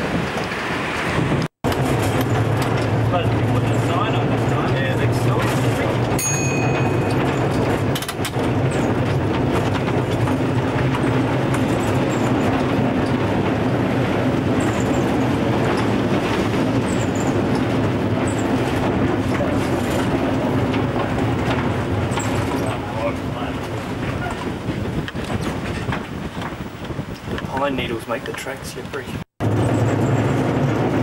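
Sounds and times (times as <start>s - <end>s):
tram motors humming: 0.0s - 25.2s
wheels rumbling on rail: 0.0s - 31.0s.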